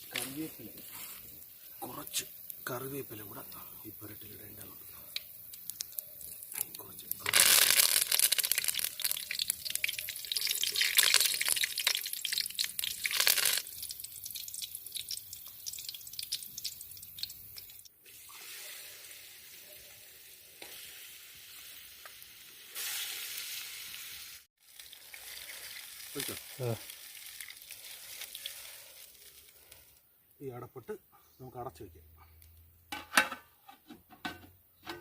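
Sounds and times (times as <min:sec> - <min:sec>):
food sizzling in a hot pan: 0:00.0 - 0:29.8.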